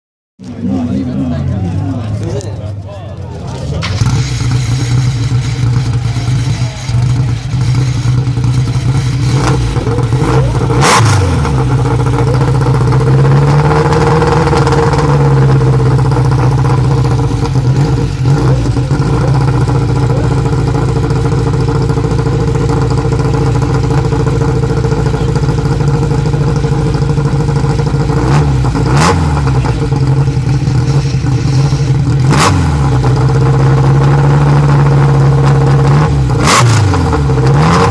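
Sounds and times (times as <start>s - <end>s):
race car engine idling: 0.4s - 37.9s
engine revs blipped: 3.4s - 37.9s.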